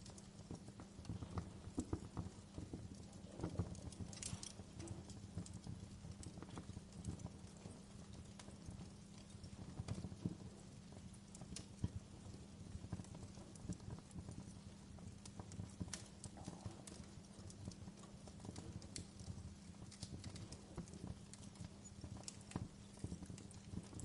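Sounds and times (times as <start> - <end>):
log fire crackling and popping: 0.0 - 24.0.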